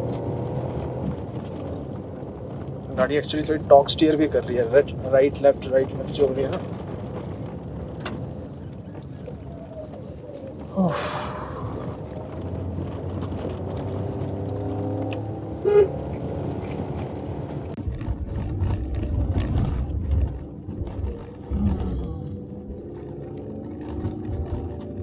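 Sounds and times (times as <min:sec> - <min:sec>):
car knocks and rattles: 0:00.0 - 0:10.8, 0:11.4 - 0:21.5
car engine under load: 0:00.0 - 0:25.0.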